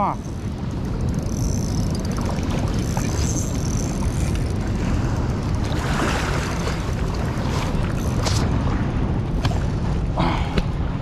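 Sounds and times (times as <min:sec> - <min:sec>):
river water running: 0:00.0 - 0:11.0
wind rumble on microphone: 0:00.0 - 0:11.0.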